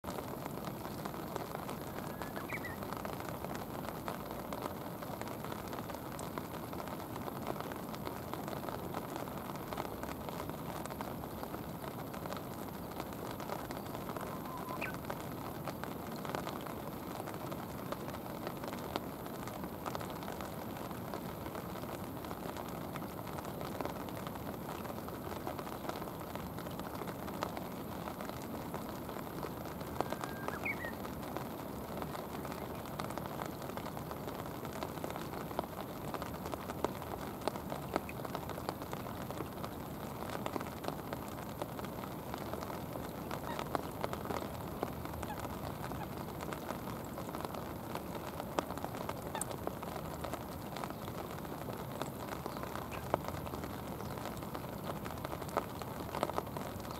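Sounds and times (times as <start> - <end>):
rain falling on water: 0.0 - 56.9.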